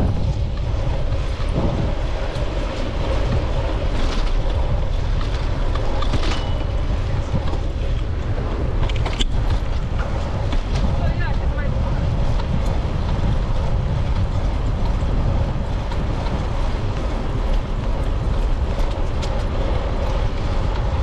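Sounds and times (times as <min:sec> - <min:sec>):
tyre and road noise: 0:00.0 - 0:21.0
wind buffeting microphone: 0:00.0 - 0:21.0.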